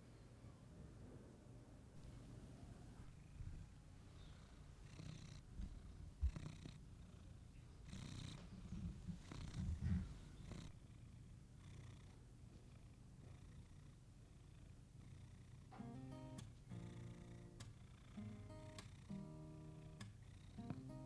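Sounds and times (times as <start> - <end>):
cat purring: 2.0 - 21.0.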